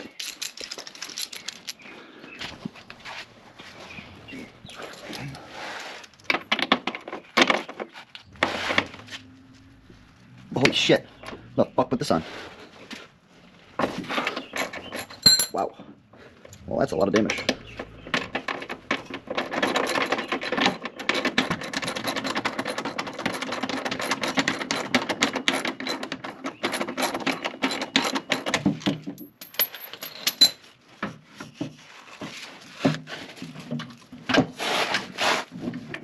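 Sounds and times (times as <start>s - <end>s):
metal clattering and scraping: 2.5s - 36.0s.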